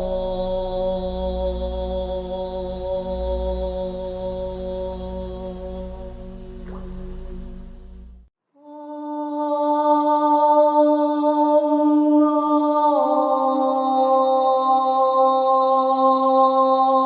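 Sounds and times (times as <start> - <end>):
voice singing long chant tone: 0.0 - 17.0.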